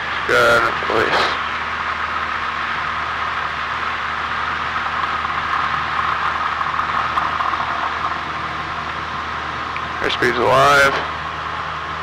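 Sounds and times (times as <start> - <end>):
aircraft engine and propeller: 0.0 - 12.0.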